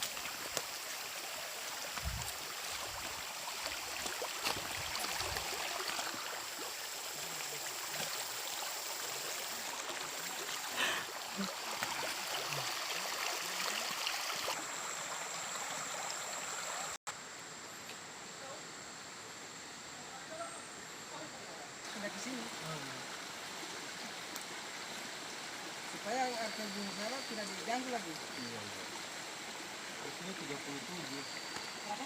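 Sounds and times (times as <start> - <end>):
stream water rushing: 0.0 - 17.0, 21.8 - 32.0.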